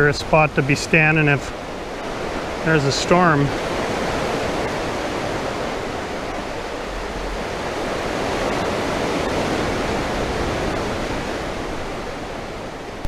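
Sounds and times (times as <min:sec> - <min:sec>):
ocean surf breaking on rocks: 0:00.0 - 0:13.0.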